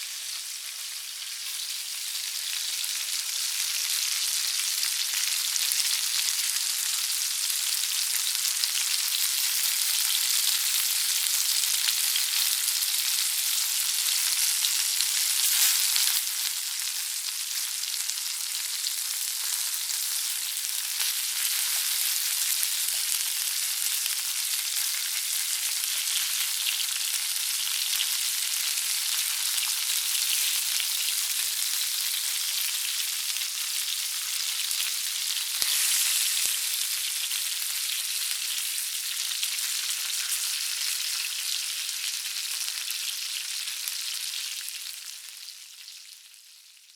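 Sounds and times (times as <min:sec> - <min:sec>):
sausages sizzling in a pan: 0:00.0 - 0:46.9.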